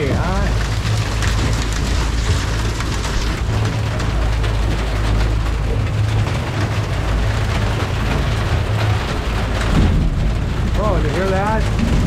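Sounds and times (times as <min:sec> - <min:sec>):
outboard motors droning: 0:00.0 - 0:12.0
rain hissing: 0:00.0 - 0:12.0
water rushing past hull: 0:00.0 - 0:12.0.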